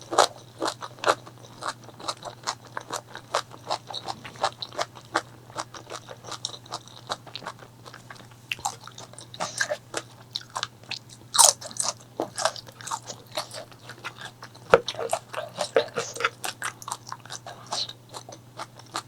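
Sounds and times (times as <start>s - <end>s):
crunchy chewing of fried food: 0.0s - 19.0s
faint low hum: 0.0s - 19.0s.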